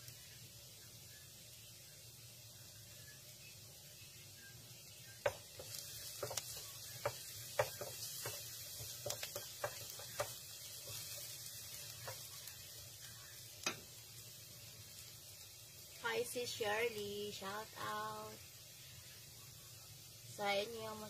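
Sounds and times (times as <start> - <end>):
garlic sizzling in a pan: 0.0 - 21.0.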